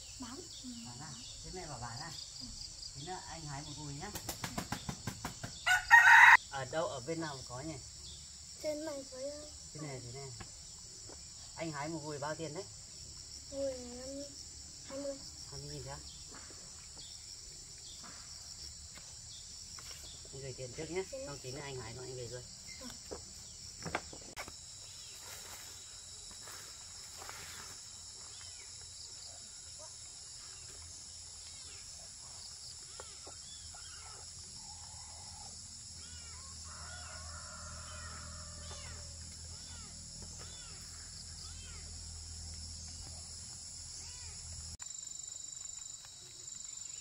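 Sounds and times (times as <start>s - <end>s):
crickets and insects chirring: 0.0s - 47.0s.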